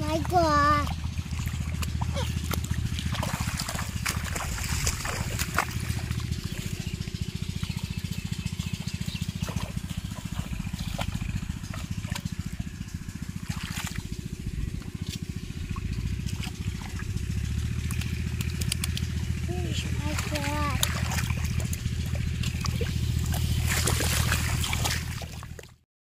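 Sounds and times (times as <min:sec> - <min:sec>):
small engine running: 0:00.0 - 0:25.8
water trickling and splashing: 0:00.0 - 0:25.8.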